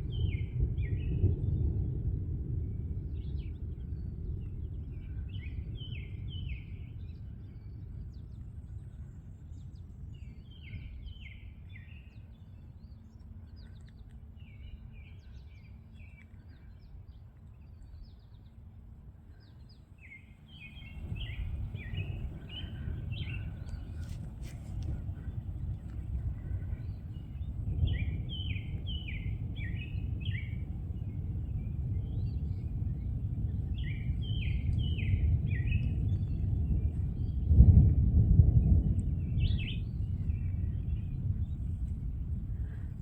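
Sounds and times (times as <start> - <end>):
songbird singing: 0.0 - 1.8, 2.6 - 43.0
wind rumbling on microphone: 0.0 - 43.0.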